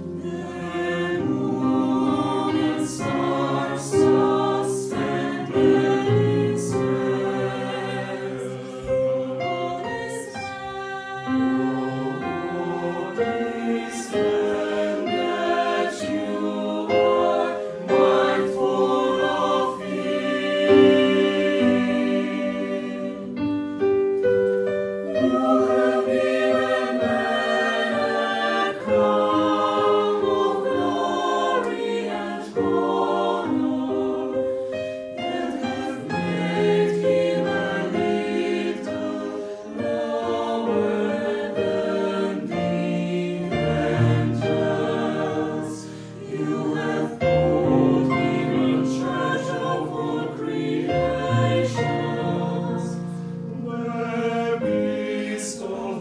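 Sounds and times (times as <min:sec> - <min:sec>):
mixed choir singing a carol: 0:00.0 - 0:56.0.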